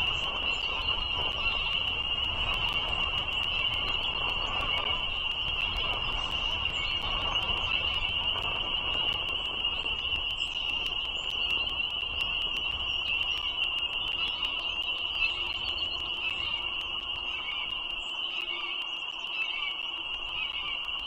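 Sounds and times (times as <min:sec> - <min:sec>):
frogs peeping in chorus: 0:00.0 - 0:21.0.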